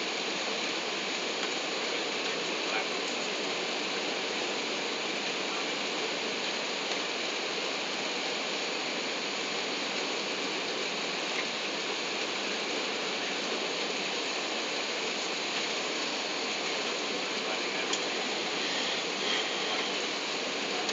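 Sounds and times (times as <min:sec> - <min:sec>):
airplane cabin noise: 0:00.0 - 0:20.9.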